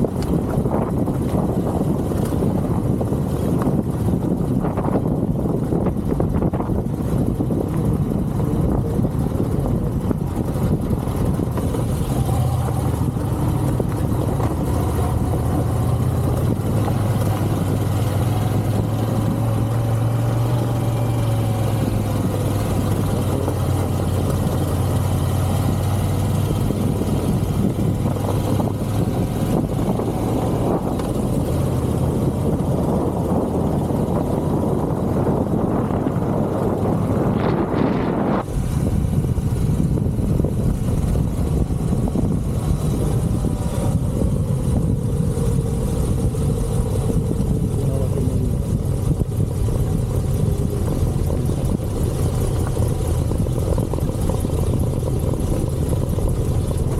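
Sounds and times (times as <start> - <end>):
motorcycle engine running: 0.0 - 56.9
wind noise: 0.0 - 56.9.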